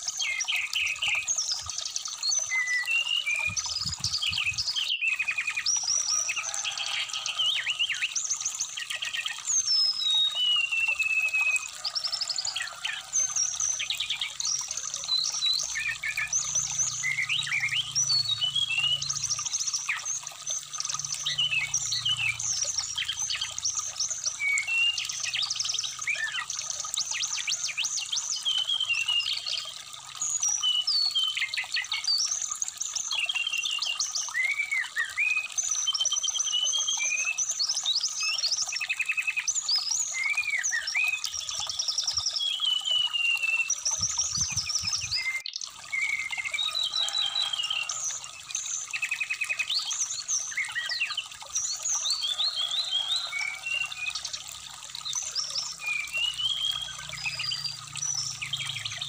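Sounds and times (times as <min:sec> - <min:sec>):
bird song with chirps and trills: 0:00.0 - 0:59.0
trickle of shallow stream: 0:00.0 - 0:59.0.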